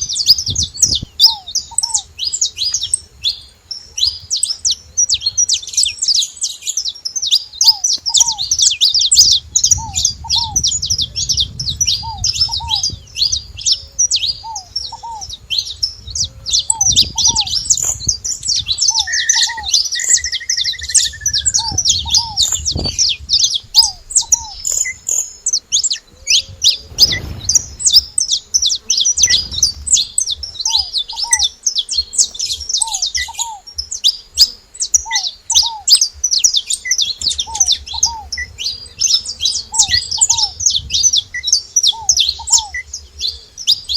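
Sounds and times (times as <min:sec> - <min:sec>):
finches chirping: 0:00.0 - 0:43.9.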